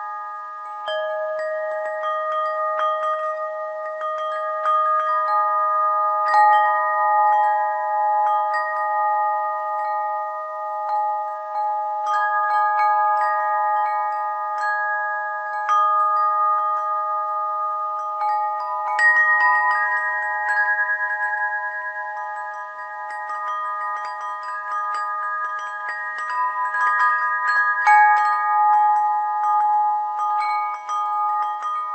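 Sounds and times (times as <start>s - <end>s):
tuned bells chiming: 0.0s - 31.9s.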